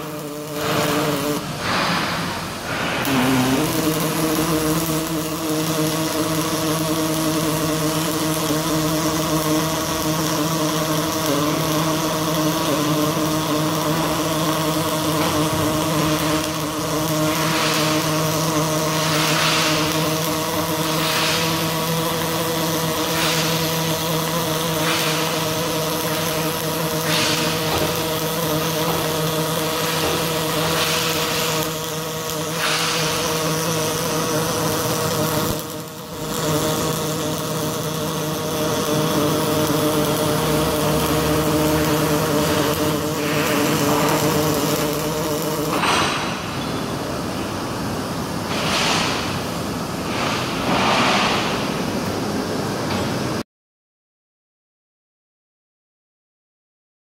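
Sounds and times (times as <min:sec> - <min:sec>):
welding arc crackling and hissing: 0:00.0 - 0:53.4.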